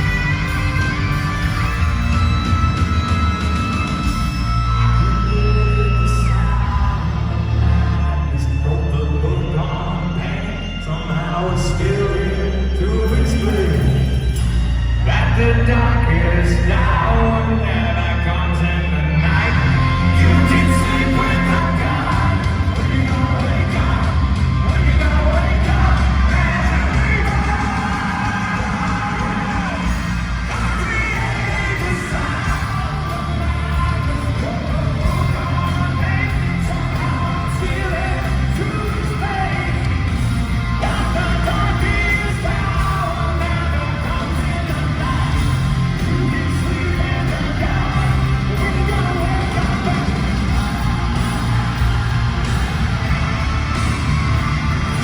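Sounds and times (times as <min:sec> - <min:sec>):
hard rock band playing live: 0:00.0 - 0:55.0
people yelling: 0:00.0 - 0:55.0
lead vocal singing: 0:03.3 - 0:55.0.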